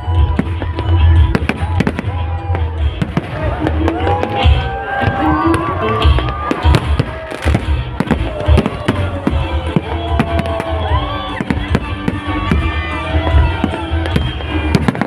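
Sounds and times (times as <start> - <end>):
fireworks bangs and crackles: 0.0 - 15.0
music playing: 0.0 - 15.0
fireworks low thumps: 0.2 - 15.0.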